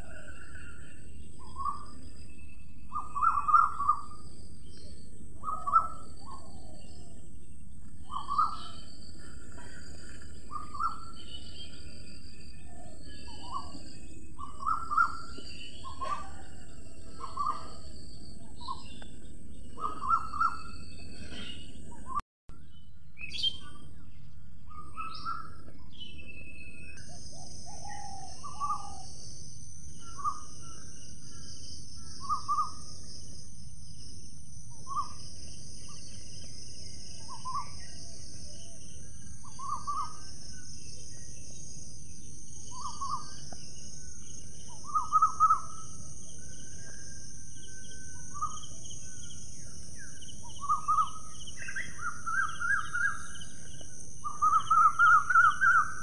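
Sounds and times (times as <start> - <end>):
bird calling: 0.0 - 22.2, 24.7 - 29.3, 29.9 - 33.4, 34.7 - 56.0.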